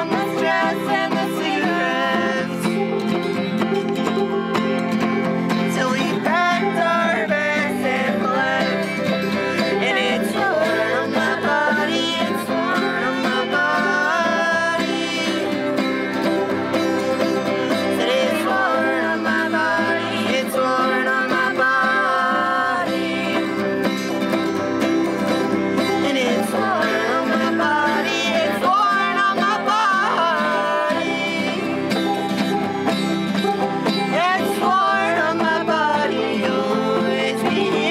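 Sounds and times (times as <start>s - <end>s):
person singing: 0.0s - 4.5s, 5.3s - 37.9s
bowed fiddle: 0.0s - 37.9s
picked banjo: 0.0s - 37.9s
strummed acoustic guitar: 0.0s - 37.9s.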